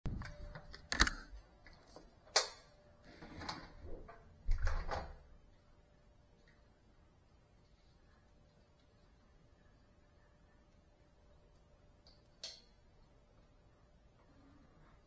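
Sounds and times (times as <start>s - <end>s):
faint room hiss: 0.1s - 15.0s.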